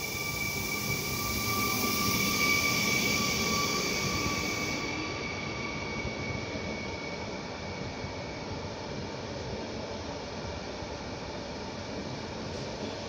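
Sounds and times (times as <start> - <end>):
electric train rumbling past: 0.0 - 13.0.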